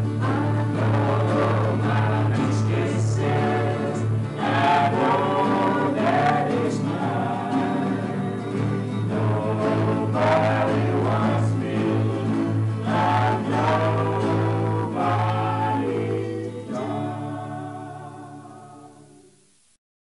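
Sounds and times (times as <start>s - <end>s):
male vocal group singing: 0.0s - 19.3s.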